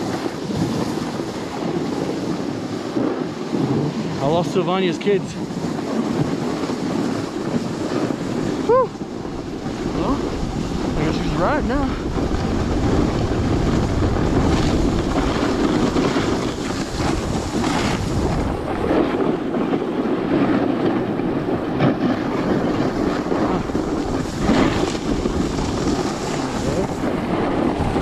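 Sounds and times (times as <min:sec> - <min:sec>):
snowboard scraping on snow: 0:00.0 - 0:28.0
wind buffeting microphone: 0:00.0 - 0:28.0.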